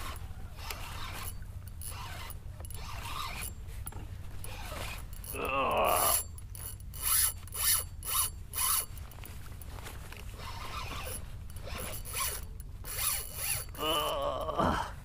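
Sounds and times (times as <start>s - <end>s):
fishing reel buzzing: 0.0s - 3.6s, 4.4s - 9.0s, 10.4s - 14.4s.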